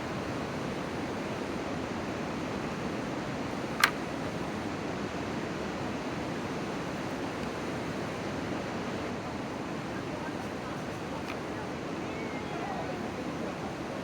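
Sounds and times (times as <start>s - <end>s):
rushing outdoor noise: 0.0s - 14.0s.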